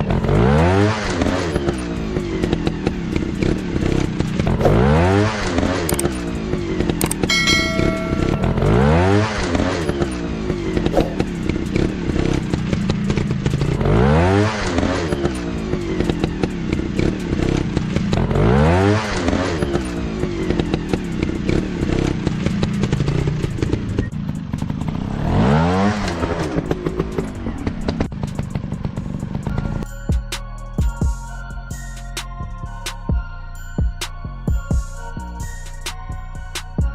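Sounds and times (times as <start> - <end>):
dirt bike engine revving: 0.0 - 29.8.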